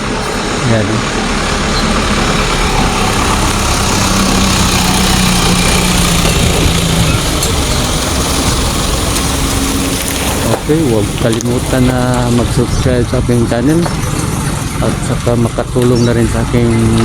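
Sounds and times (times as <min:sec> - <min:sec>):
heavy vehicle engine droning: 0:00.0 - 0:17.0
traffic noise: 0:00.0 - 0:17.0.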